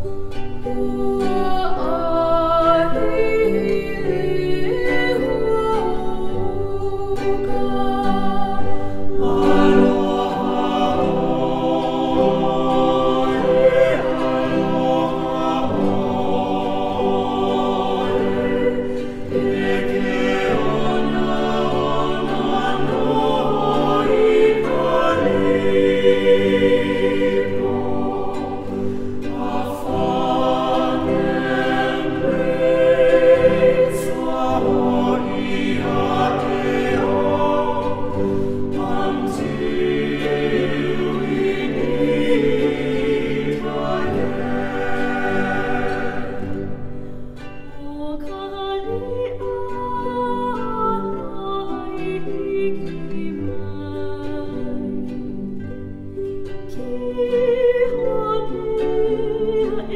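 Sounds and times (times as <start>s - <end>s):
choir singing held chords: 0.0s - 59.9s.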